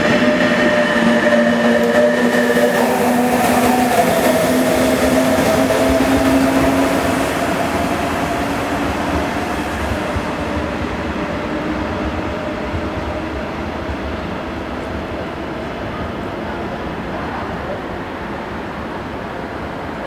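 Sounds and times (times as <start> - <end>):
train running past: 0.0 - 20.0.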